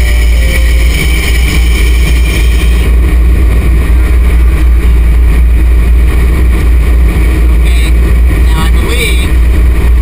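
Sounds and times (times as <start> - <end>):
excavator diesel engine rumbling: 0.0 - 10.0.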